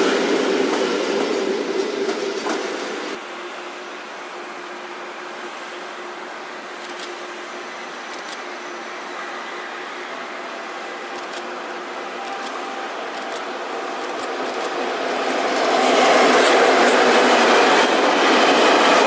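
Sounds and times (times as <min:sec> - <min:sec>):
freight train running on rails: 0:00.0 - 0:19.0.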